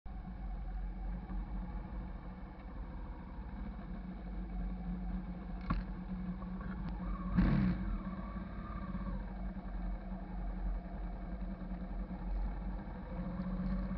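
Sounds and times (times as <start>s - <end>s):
motorcycle engine running: 0.3s - 13.9s.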